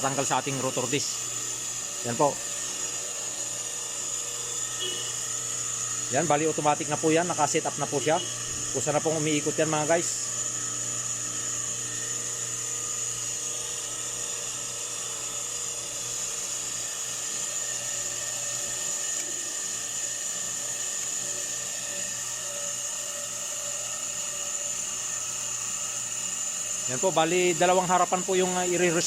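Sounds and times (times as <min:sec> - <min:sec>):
brake lathe whining: 0:00.0 - 0:29.0.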